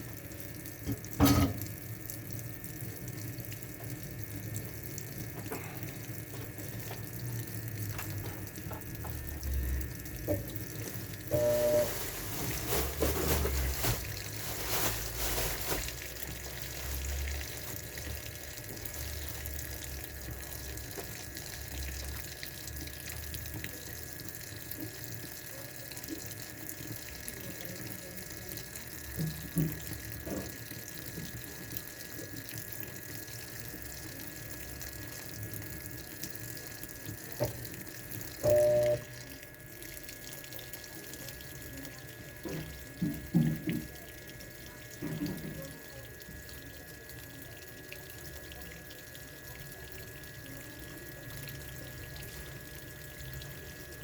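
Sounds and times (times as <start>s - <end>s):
washing machine filling with water: 0.0s - 54.0s.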